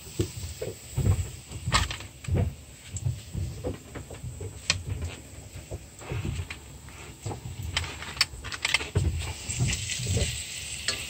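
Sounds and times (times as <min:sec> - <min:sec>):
faint frying sizzle: 0:00.0 - 0:08.2, 0:08.9 - 0:11.0
handling knocks and clicks: 0:00.2 - 0:09.8.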